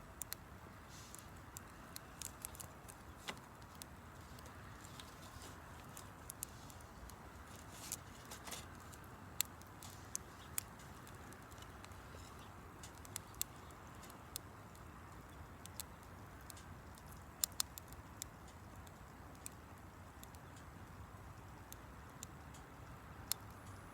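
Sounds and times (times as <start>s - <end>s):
campfire crackling and popping: 0.0s - 23.7s
faint steady hiss: 0.0s - 23.9s.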